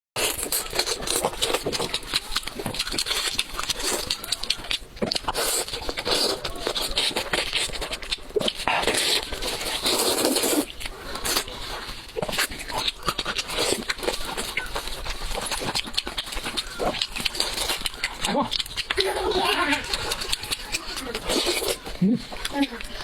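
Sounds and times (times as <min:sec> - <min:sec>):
wet chewing and slurping: 0:00.2 - 0:23.0.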